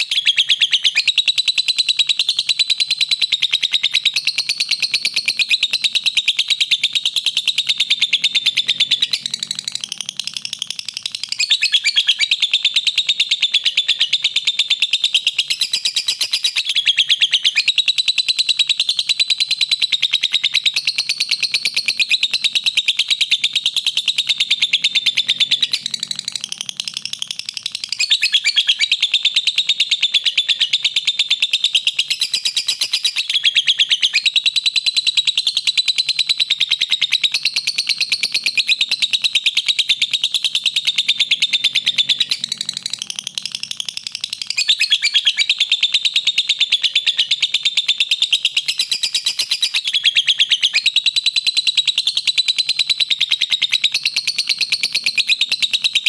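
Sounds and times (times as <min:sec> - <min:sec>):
lovebird chirping and trilling: 0:00.0 - 0:56.0.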